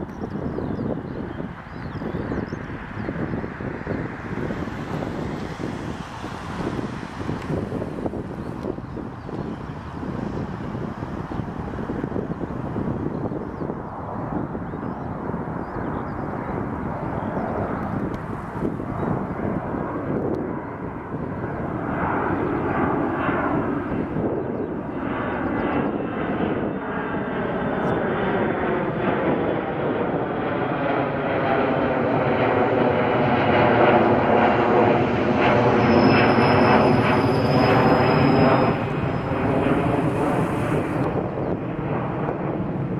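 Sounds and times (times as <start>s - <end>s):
aircraft engine droning: 0.0s - 42.9s.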